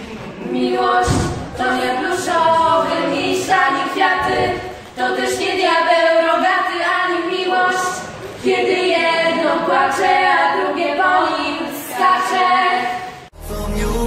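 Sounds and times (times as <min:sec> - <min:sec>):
girls singing in harmony: 0:00.2 - 0:13.3.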